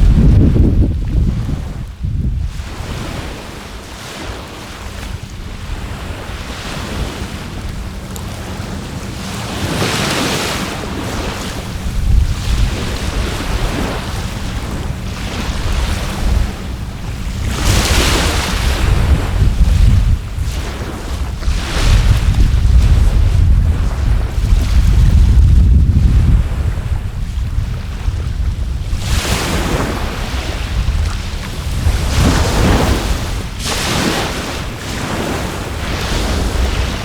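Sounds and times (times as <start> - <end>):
sea waves breaking on shore: 0.0 - 37.0
wind rumble on microphone: 0.0 - 37.0.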